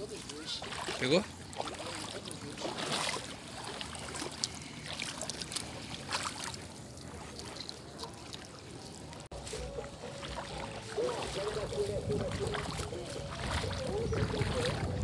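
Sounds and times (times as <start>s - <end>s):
water splashing and dripping from net: 0.0s - 9.3s, 10.2s - 11.6s, 12.4s - 14.9s.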